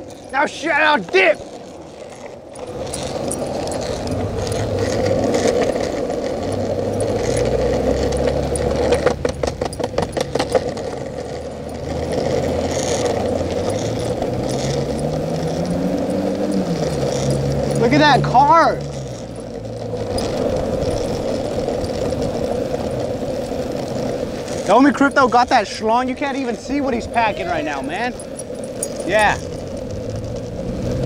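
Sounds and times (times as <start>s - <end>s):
car engine revving: 0.0s - 31.0s
rattling clatter: 0.0s - 31.0s
traffic engine hum: 0.0s - 31.0s
wheels rolling on pavement: 0.0s - 31.0s.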